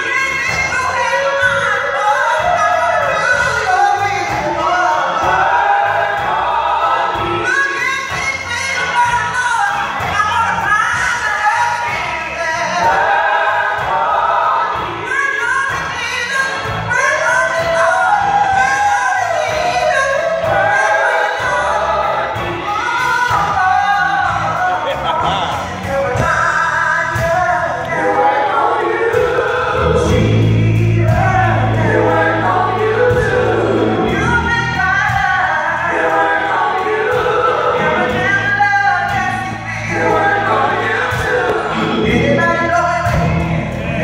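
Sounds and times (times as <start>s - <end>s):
women's group singing gospel: 0.0s - 44.0s
low bass notes: 2.3s - 44.0s.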